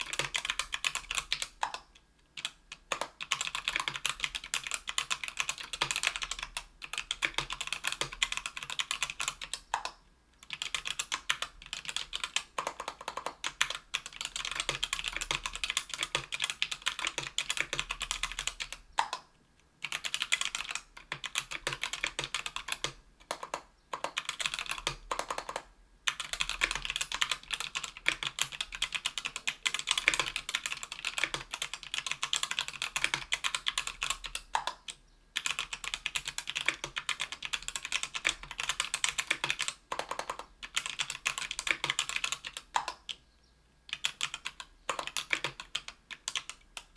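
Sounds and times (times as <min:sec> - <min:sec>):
fast keyboard typing: 0:00.0 - 0:43.2, 0:43.9 - 0:46.9.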